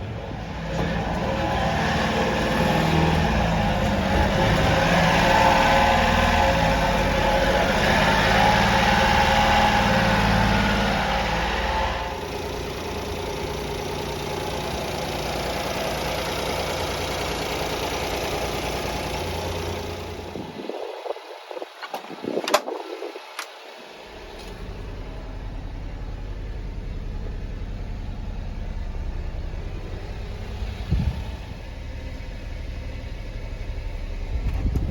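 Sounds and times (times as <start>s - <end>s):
small truck engine idling: 0.0s - 21.7s, 23.7s - 34.9s.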